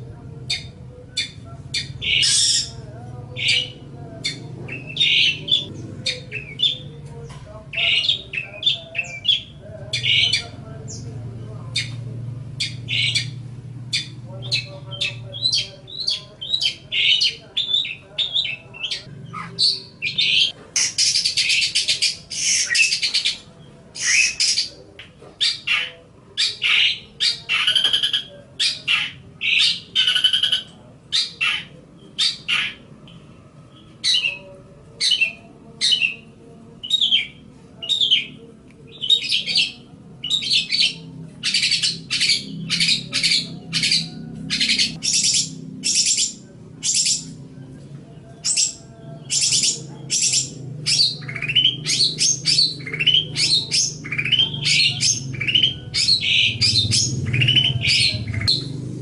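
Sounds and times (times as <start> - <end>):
bird high chattering song: 0.4 - 11.1, 11.7 - 47.4, 48.2 - 58.8.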